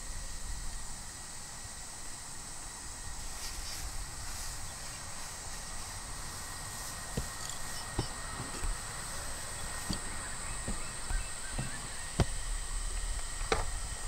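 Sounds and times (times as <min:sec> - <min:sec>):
high-pitched hum: 0:00.0 - 0:14.0.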